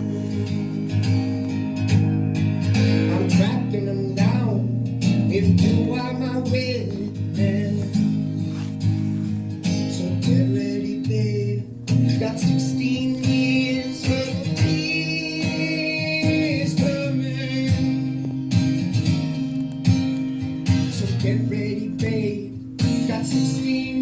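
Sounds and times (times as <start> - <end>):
man singing: 0.0 - 1.7, 2.8 - 8.8, 9.7 - 19.3, 20.5 - 24.0
strummed guitar: 0.0 - 24.0.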